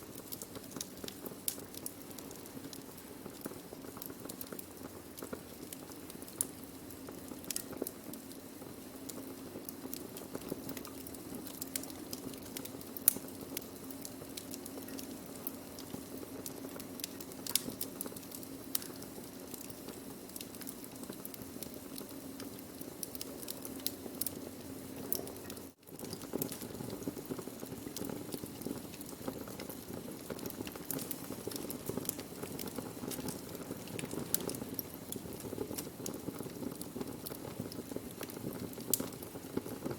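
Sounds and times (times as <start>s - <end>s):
fire crackles and pops: 0.0s - 39.9s
wood fire burning: 0.0s - 39.9s.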